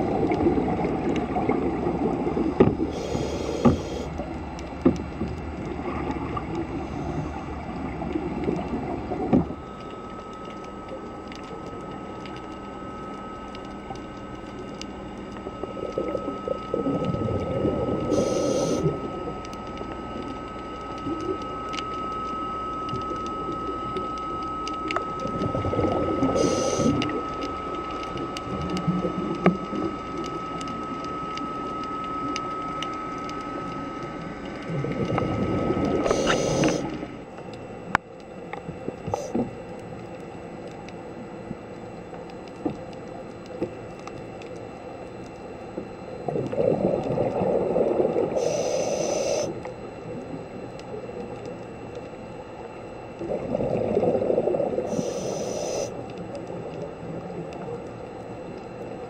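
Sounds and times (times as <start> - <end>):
high-pitched hum: 0.0 - 59.0
underwater bubbles rushing: 0.0 - 59.0.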